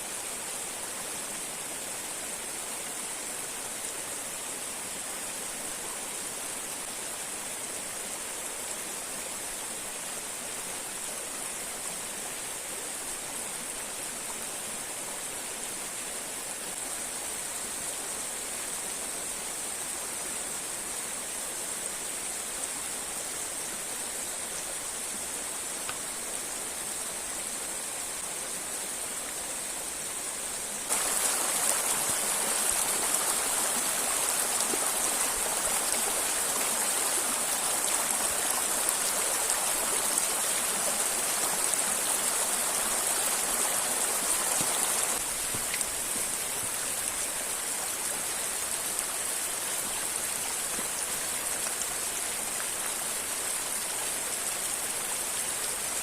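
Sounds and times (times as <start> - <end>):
river and waterfall rushing: 0.0 - 56.0.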